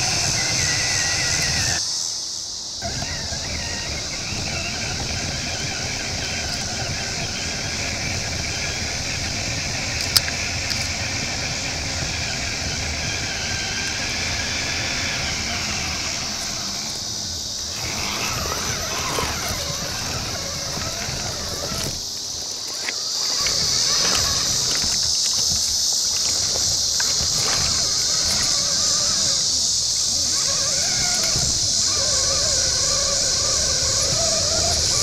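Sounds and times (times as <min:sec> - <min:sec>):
toy car electric motor whine: 0:00.0 - 0:01.9, 0:02.8 - 0:35.0
rough rumbling from ground: 0:02.7 - 0:35.0.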